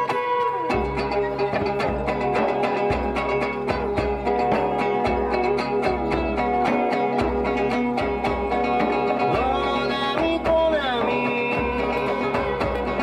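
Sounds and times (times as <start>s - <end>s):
acoustic guitar: 0.0s - 13.0s
hand drums beat: 0.0s - 13.0s
three-string lute: 0.0s - 13.0s.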